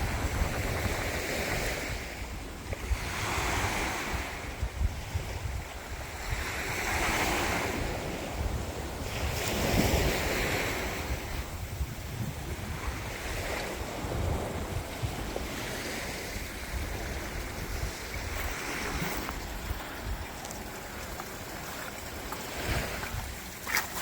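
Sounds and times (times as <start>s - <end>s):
small waves breaking on sand: 0.0s - 24.0s
wind buffeting microphone: 0.0s - 24.0s.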